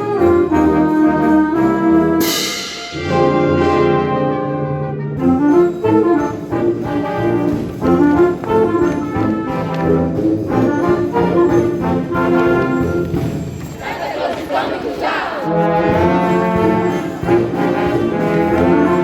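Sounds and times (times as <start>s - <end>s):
wind band playing accented chords: 0.0s - 19.0s.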